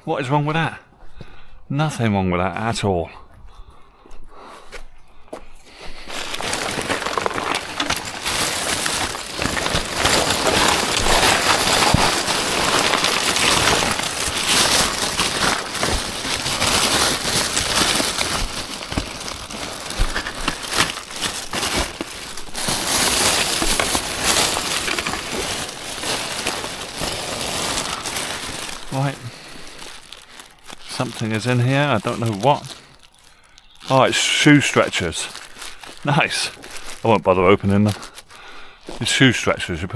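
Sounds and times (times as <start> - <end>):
paper and plastic bags rustling: 5.7 - 39.9.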